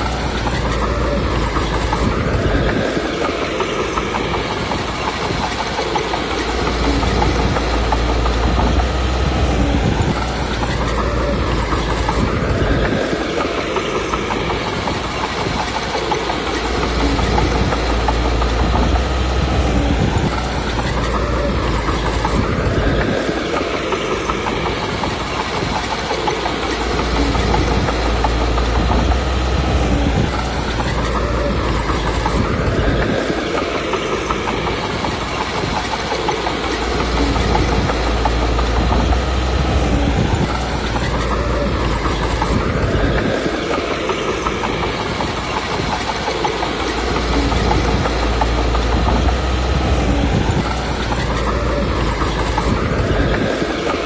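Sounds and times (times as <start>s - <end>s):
bulldozer diesel engine: 0.0s - 54.0s
steel tracks clanking: 0.0s - 54.0s.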